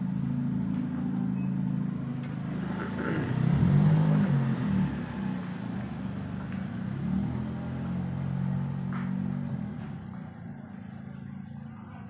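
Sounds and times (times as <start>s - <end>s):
low motor-like drone: 0.0s - 12.0s.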